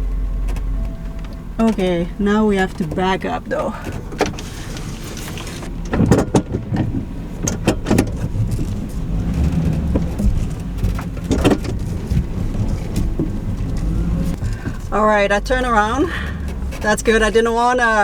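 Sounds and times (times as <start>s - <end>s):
van engine running at low speed: 0.0s - 18.0s.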